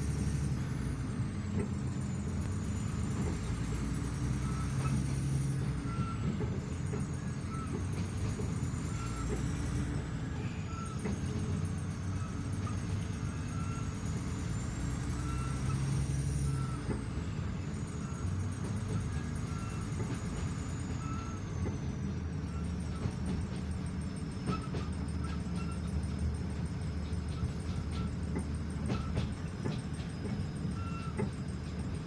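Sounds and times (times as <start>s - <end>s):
train rumbling along track: 0.0s - 32.0s
short faint squeaks: 2.5s - 32.0s.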